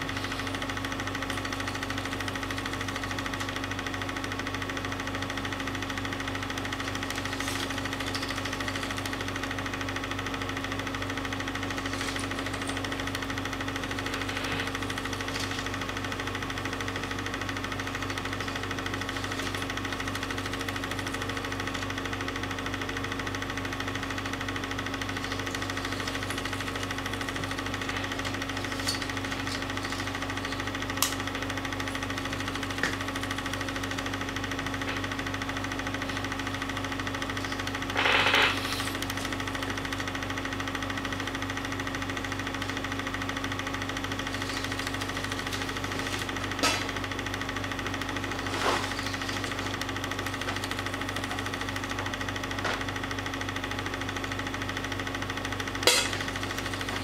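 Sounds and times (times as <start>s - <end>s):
film projector humming: 0.0s - 57.0s.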